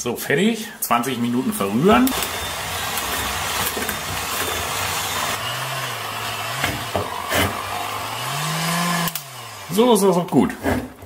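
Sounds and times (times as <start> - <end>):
electric mixer kneading dough: 1.0 - 10.2.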